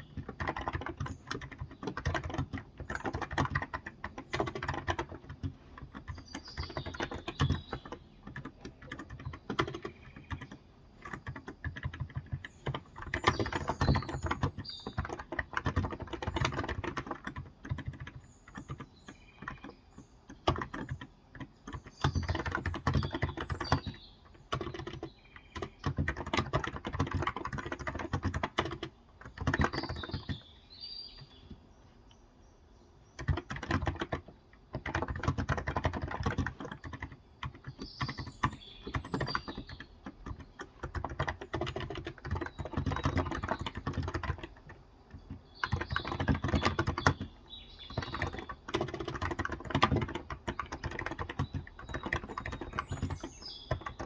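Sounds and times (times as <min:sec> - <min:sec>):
typing on a keyboard: 0:00.0 - 0:32.2, 0:33.0 - 0:54.0
birds chirping: 0:00.0 - 0:54.0.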